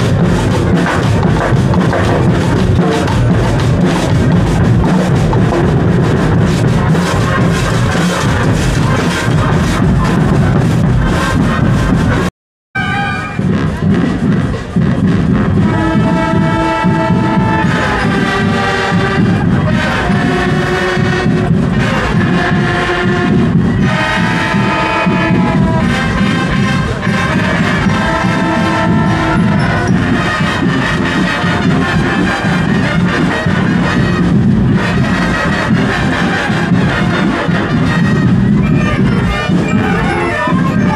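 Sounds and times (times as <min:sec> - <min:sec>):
brass melody: 0:00.0 - 0:40.9
steady drum beat: 0:00.0 - 0:40.9.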